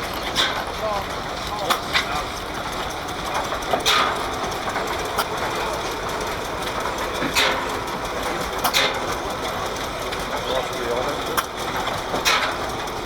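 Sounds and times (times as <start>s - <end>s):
stationary engines running: 0.0s - 13.0s.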